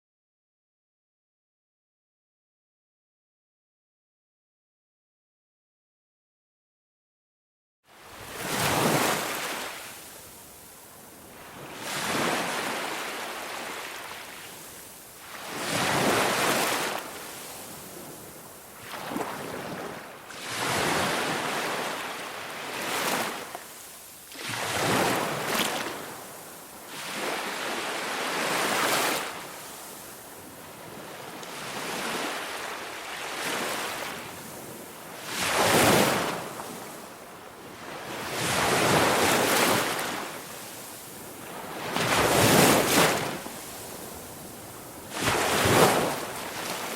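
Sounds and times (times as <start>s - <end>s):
sea waves washing in: 8.0s - 37.2s, 37.8s - 46.9s.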